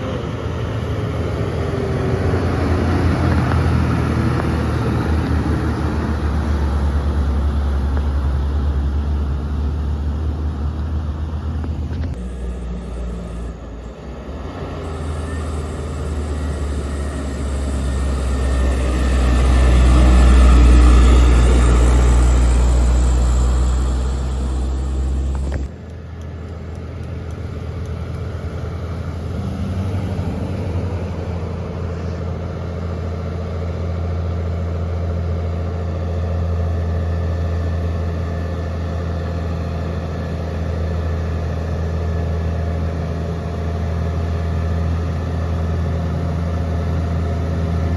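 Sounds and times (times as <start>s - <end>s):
heavy diesel truck engines labouring: 0.0s - 47.9s.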